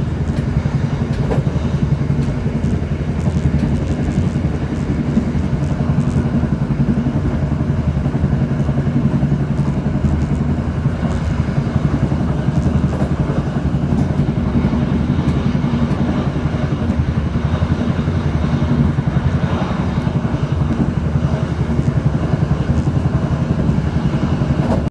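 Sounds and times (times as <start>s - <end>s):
engine running steadily: 0.0s - 24.9s.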